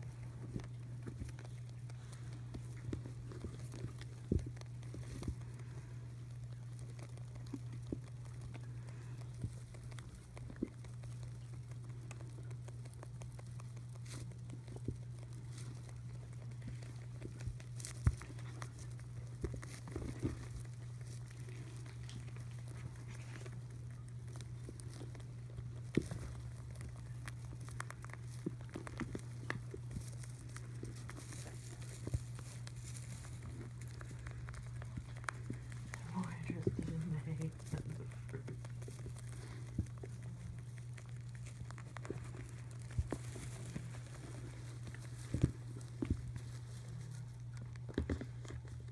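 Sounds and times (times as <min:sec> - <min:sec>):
rabbits munching hay: 0:00.0 - 0:48.9.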